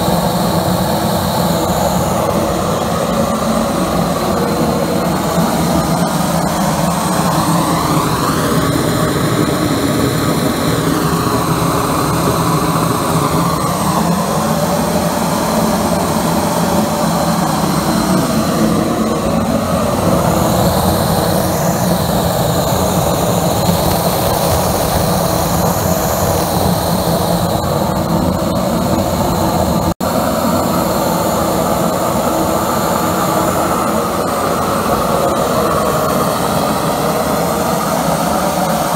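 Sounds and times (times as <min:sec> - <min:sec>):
air compressor running: 0:00.0 - 0:38.9
burner running: 0:00.0 - 0:38.9.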